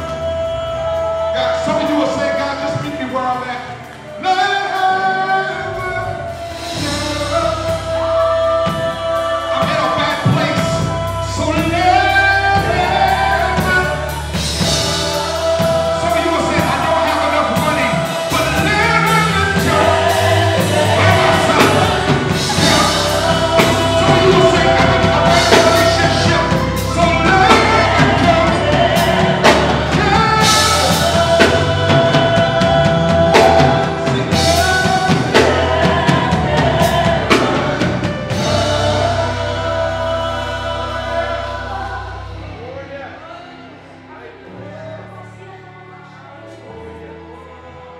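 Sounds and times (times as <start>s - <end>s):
band with bass and drums: 0.0s - 42.6s
gospel singing with backing vocals: 0.0s - 47.9s.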